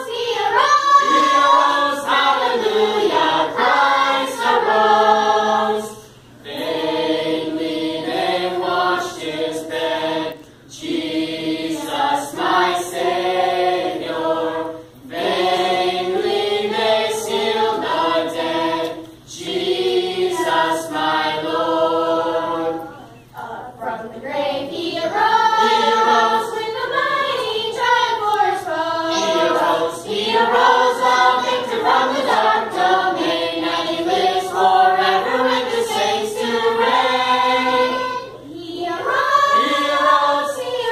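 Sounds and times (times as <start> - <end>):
youth choir singing: 0.0 - 40.9.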